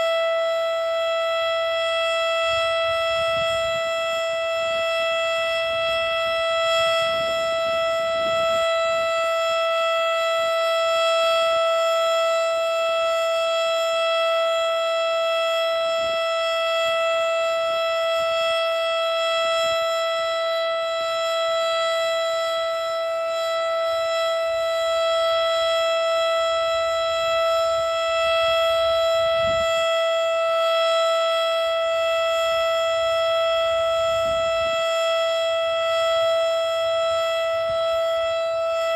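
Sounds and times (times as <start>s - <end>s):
warning siren steady high tone: 0.0s - 38.9s.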